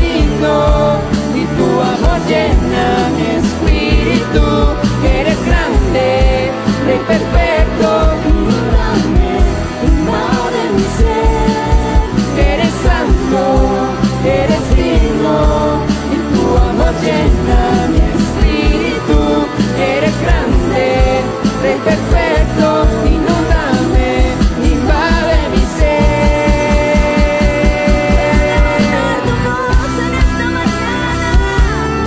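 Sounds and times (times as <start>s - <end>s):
drum beats: 0.0s - 32.0s
person singing: 0.0s - 32.0s
worship song by full band: 0.0s - 32.0s.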